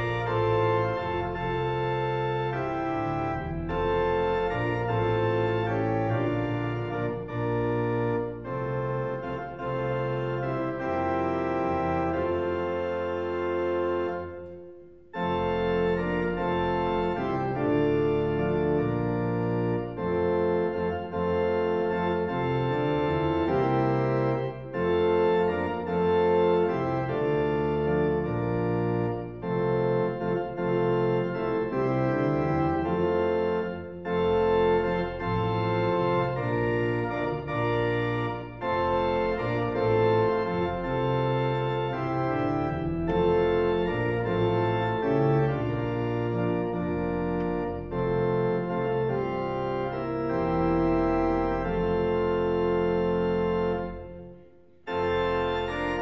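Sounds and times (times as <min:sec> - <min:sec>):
organ playing sustained chords: 0:00.0 - 0:56.0.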